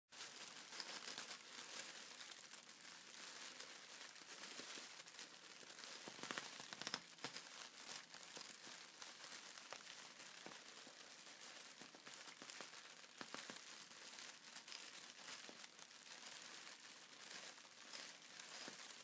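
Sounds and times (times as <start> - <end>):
plastic film crinkling: 0.1 - 19.0.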